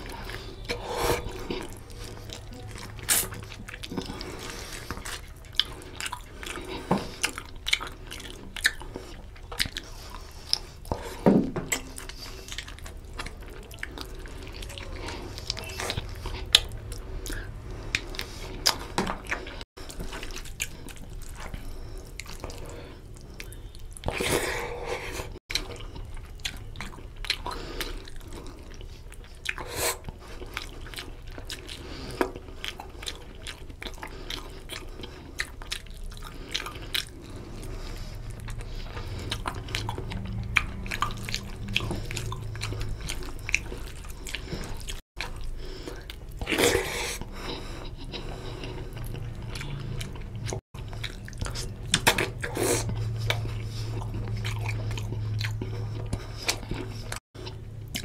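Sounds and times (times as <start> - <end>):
wet squelching of food mixed by hand: 0.0 - 11.2, 11.8 - 58.0
chewing and lip smacks: 0.0 - 58.0.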